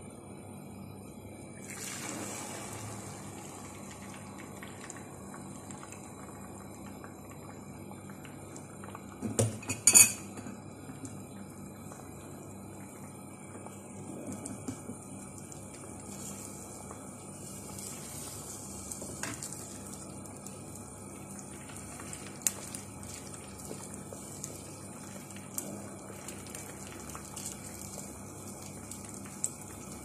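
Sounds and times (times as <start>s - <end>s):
eggs sizzling in frying pan: 1.7s - 30.0s.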